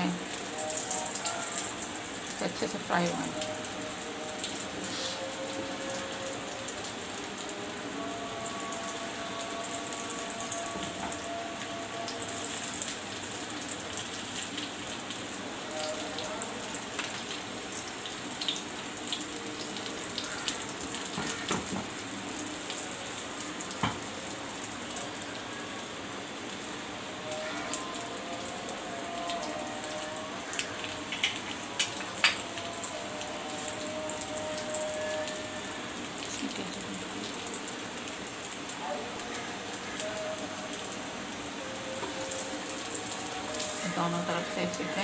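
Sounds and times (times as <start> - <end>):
oil sizzling and crackling: 0.0 - 45.0.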